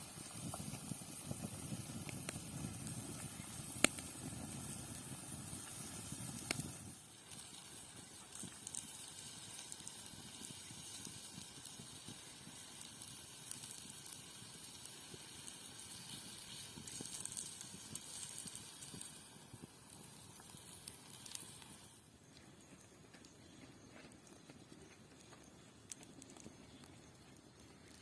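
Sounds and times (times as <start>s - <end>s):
food sizzling over open fire: 0.0s - 28.0s.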